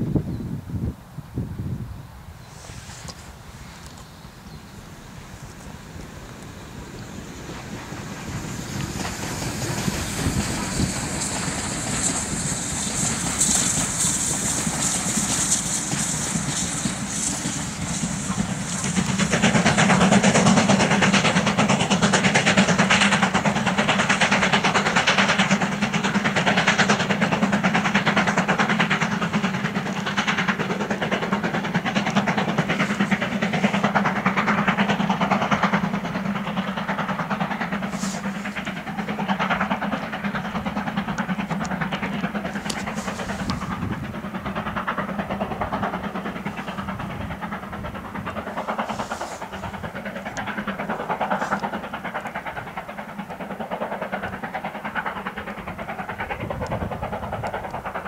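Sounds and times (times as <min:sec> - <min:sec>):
high steam hiss: 0:00.0 - 0:58.0
wheels rumbling on rail: 0:00.0 - 0:58.0
steam locomotive chuffing: 0:02.3 - 0:58.0.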